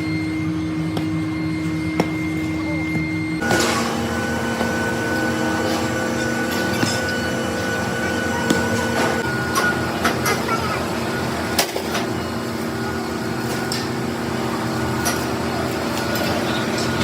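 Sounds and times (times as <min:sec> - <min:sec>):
workshop machine humming: 0:00.0 - 0:17.0.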